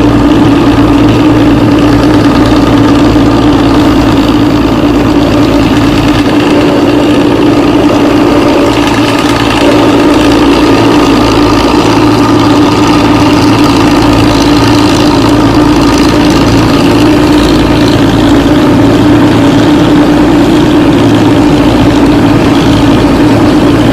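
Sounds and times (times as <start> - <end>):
diesel bus engine running: 0.0 - 23.9.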